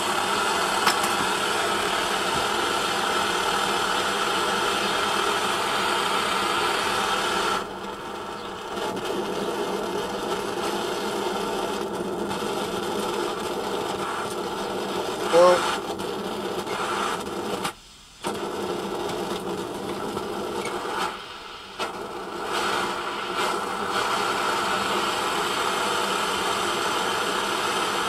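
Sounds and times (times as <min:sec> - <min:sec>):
pressure stove burner roaring: 0:00.0 - 0:28.0.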